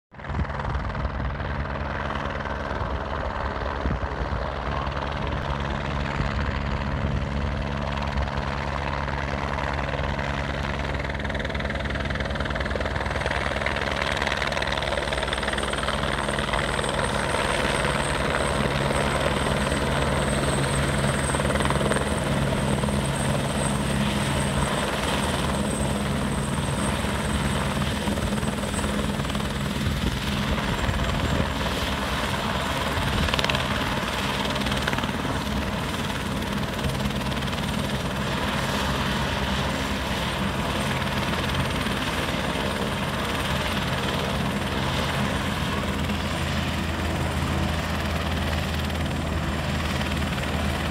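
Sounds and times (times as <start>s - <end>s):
helicopter rotor and engine: 0.1s - 50.9s.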